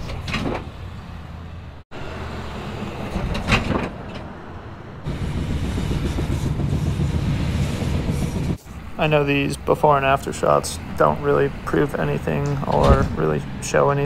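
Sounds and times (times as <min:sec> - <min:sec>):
pickup truck driving: 0:00.0 - 0:14.0.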